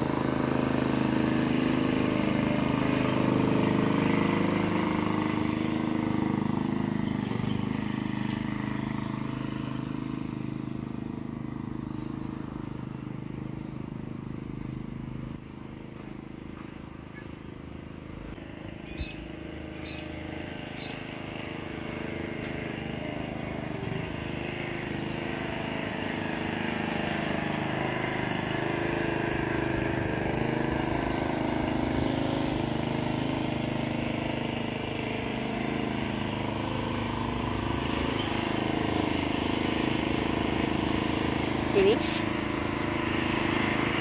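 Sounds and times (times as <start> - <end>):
lawn mower engine running: 0.0 - 44.0.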